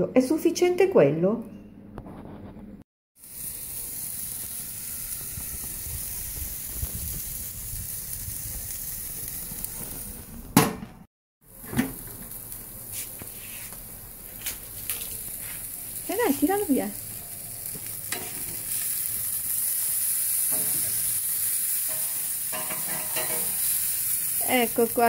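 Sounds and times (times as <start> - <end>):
steak sizzling on grill: 3.2 - 10.4, 11.4 - 25.0.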